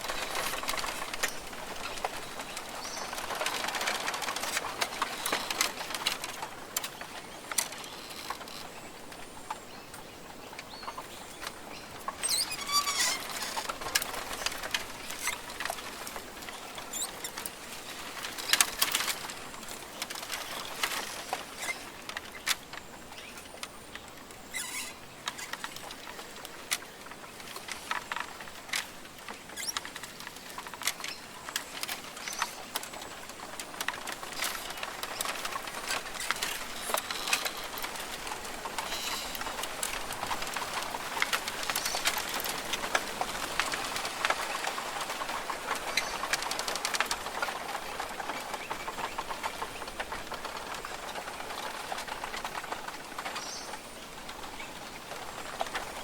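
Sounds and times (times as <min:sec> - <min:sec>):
rainforest hiss: 0:00.0 - 0:56.0
small clicks and patters: 0:00.0 - 0:56.0.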